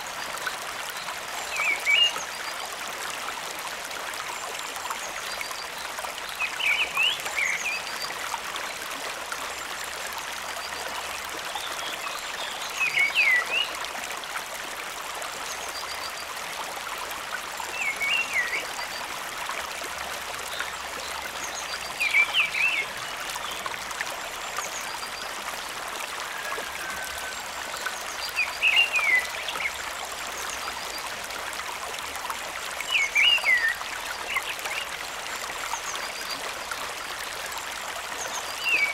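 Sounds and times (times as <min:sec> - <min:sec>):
stream and waterfall rushing: 0:00.0 - 0:38.9.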